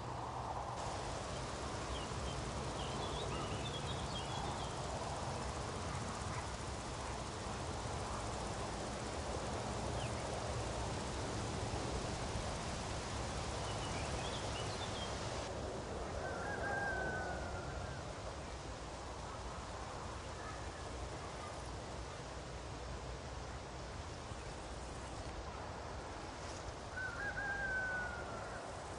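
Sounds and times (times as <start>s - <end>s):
steady background hiss: 0.0s - 28.9s.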